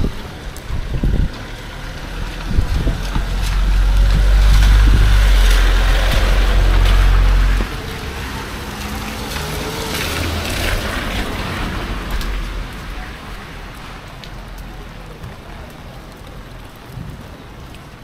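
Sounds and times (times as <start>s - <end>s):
low rumble of passing vehicle: 0.0s - 15.1s
wet street hiss: 0.0s - 18.0s.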